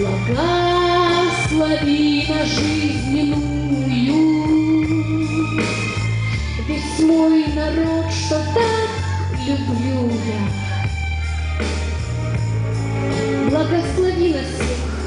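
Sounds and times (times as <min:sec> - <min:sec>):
woman singing into a microphone: 0:00.0 - 0:10.7, 0:13.4 - 0:15.0
instrumental accompaniment: 0:00.0 - 0:15.0.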